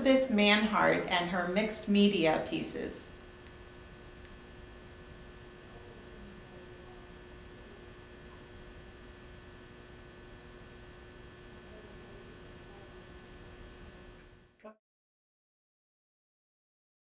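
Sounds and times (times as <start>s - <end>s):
electrical hum: 0.0s - 14.6s.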